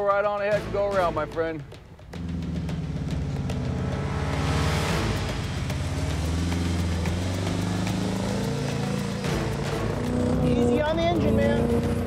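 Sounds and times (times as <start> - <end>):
vehicle engine revving: 2.0 - 12.0.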